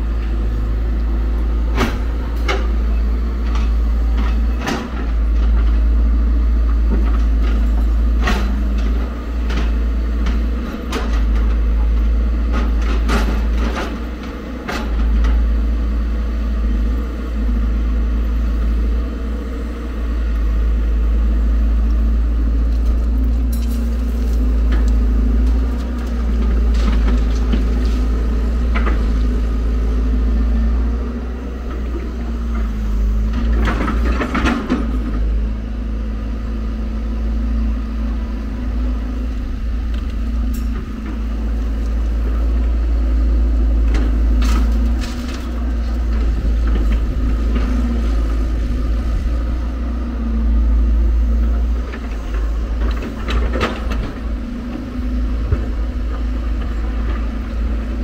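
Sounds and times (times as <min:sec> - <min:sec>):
excavator diesel engine rumbling: 0:00.0 - 0:58.0.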